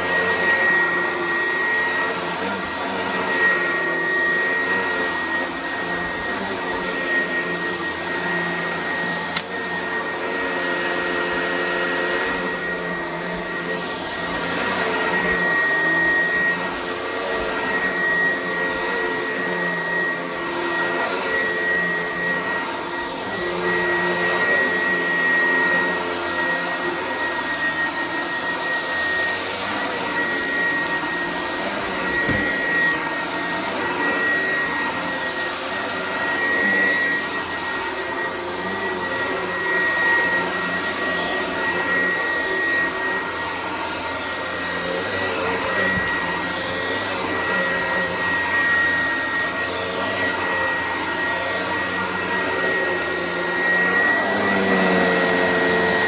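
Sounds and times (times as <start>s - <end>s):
upright vacuum cleaner running: 0.0s - 56.0s.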